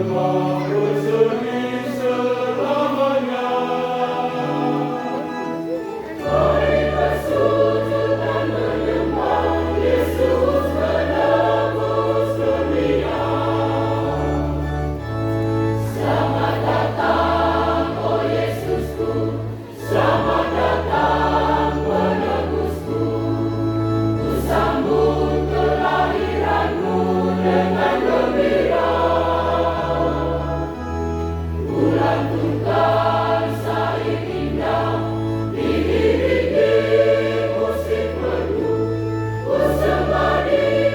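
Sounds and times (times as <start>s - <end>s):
choir singing in parts: 0.0s - 15.1s, 15.8s - 30.9s, 31.6s - 40.9s.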